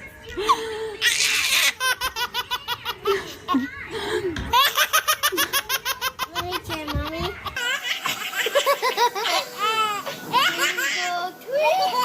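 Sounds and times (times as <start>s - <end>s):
high-pitched laughter: 0.4s - 12.0s.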